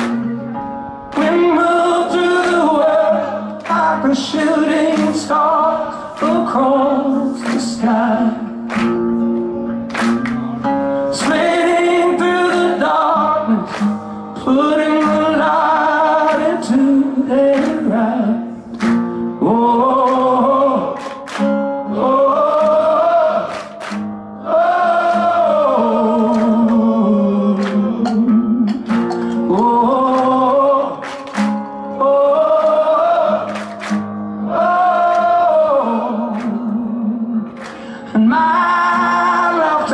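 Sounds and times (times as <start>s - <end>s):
man singing with vibrato: 1.2s - 8.6s, 11.0s - 23.5s, 24.5s - 33.6s, 34.4s - 39.9s.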